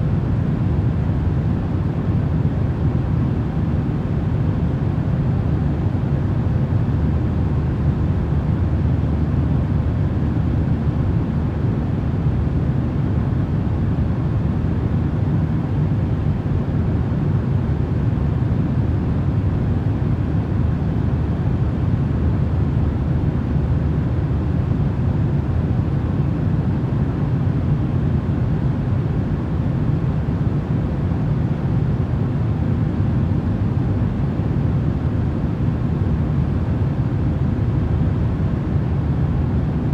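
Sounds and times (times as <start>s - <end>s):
steady low rumbling noise: 0.0s - 39.9s.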